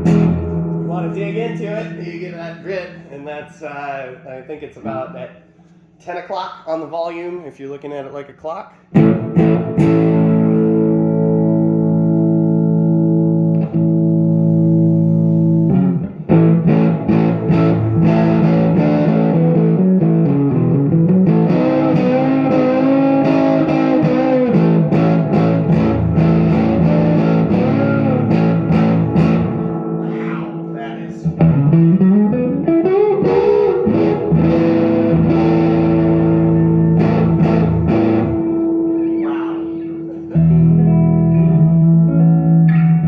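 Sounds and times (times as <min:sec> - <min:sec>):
overdriven electric guitar: 0:00.0 - 0:00.9, 0:08.9 - 0:43.0.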